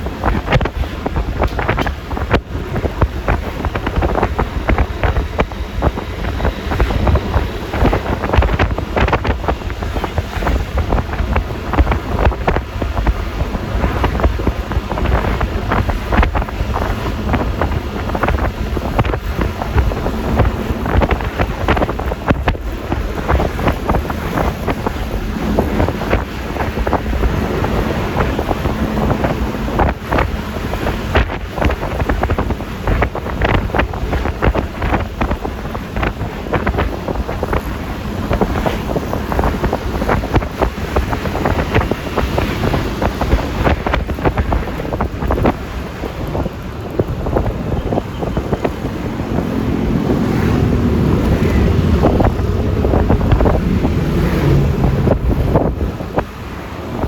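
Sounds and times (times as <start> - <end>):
road and engine noise: 0.0 - 57.0
wind buffeting microphone: 0.0 - 57.0.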